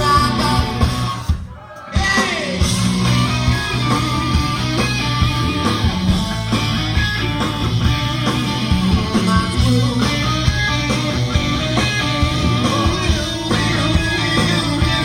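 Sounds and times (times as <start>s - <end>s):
electric guitar: 0.0s - 1.4s, 2.4s - 15.0s
bass guitar: 0.0s - 15.0s
drums: 0.0s - 15.0s.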